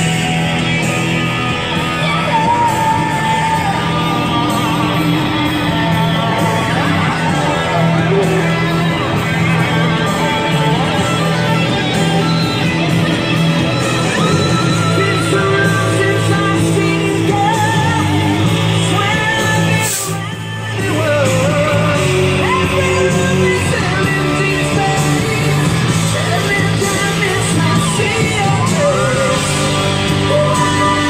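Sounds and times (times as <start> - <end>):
rock song with singing: 0.0 - 31.0.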